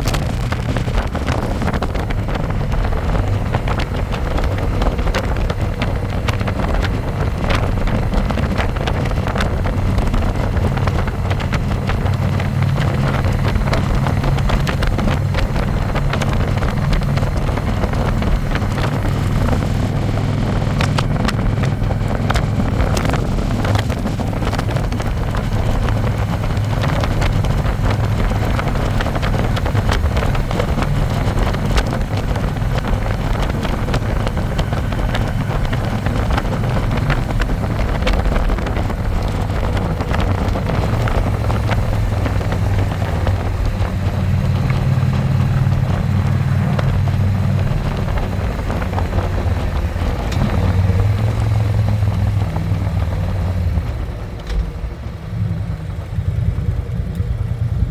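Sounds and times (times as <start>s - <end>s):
motorcycle engine running: 0.0s - 57.9s
wind on microphone: 0.0s - 57.9s.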